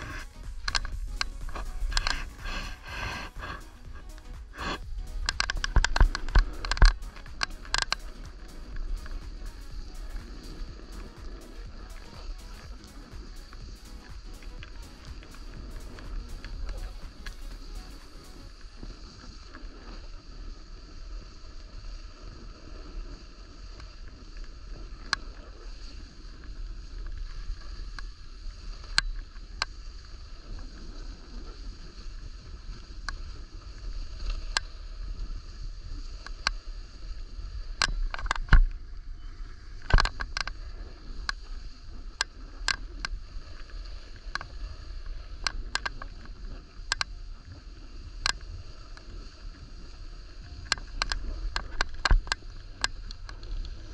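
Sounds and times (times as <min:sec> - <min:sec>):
snowboard sliding on snow: 0:00.0 - 0:53.9.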